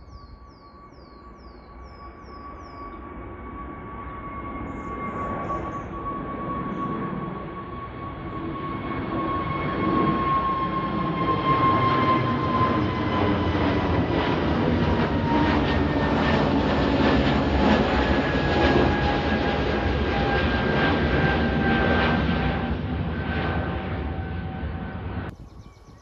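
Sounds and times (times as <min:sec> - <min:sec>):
airliner engines: 0:00.0 - 0:26.0.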